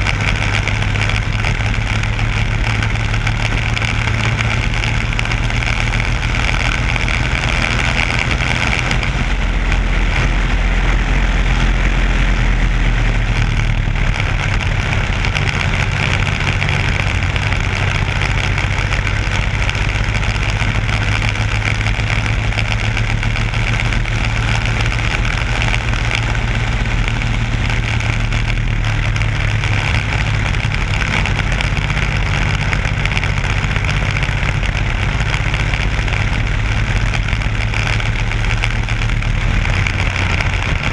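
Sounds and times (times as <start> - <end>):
kart engine droning: 0.0 - 40.9
wind rushing over microphone: 0.0 - 40.9.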